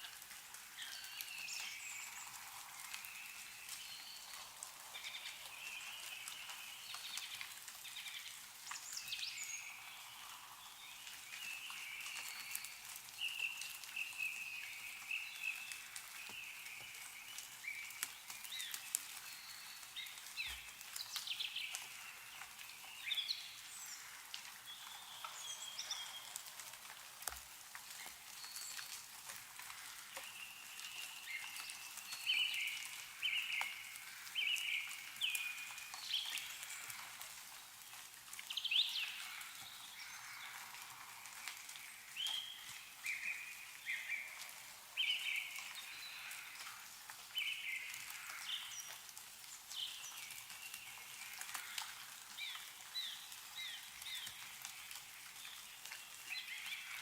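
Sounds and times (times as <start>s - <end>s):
melting snow dripping: 0.0s - 57.0s
small birds chirping: 0.6s - 57.0s.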